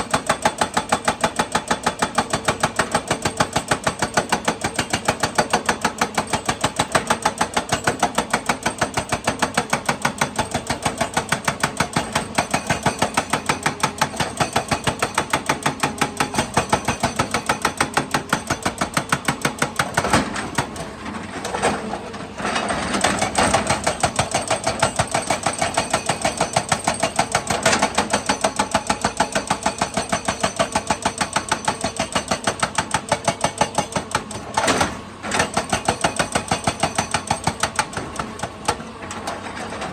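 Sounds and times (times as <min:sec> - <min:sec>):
excavator diesel engine clattering: 0:04.2 - 0:39.9.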